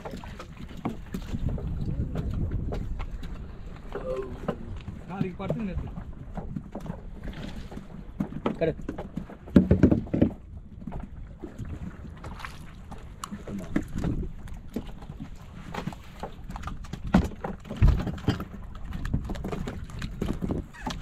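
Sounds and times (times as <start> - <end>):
water and wind around hull: 0.0 - 21.0.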